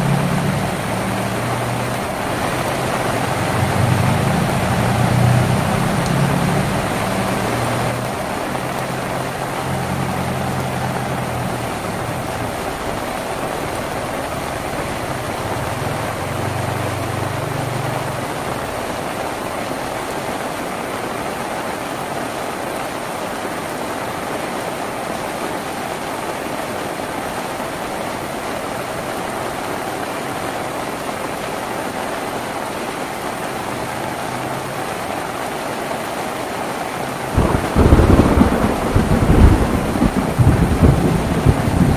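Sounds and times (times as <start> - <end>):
rain on a tin roof: 0.0 - 41.9.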